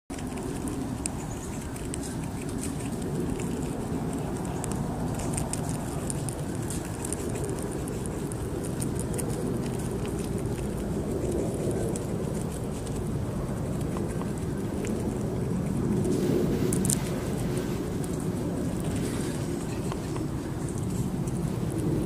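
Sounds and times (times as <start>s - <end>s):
low background rumble: 0.1s - 22.0s
squirrel nibbling crunching clicks: 0.1s - 22.0s.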